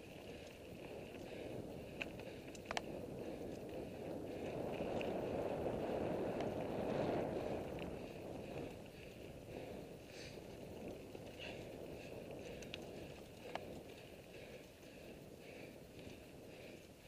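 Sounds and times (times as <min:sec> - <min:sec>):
bike clicks: 0:00.0 - 0:17.0
bike tyres rolling on dirt: 0:00.0 - 0:17.0
wind on microphone: 0:00.0 - 0:17.0.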